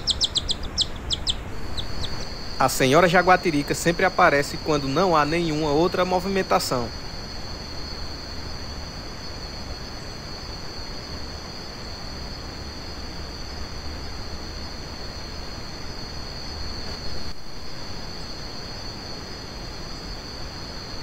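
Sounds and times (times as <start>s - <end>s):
background hiss: 0.0s - 21.0s
night insects chirring: 0.0s - 21.0s.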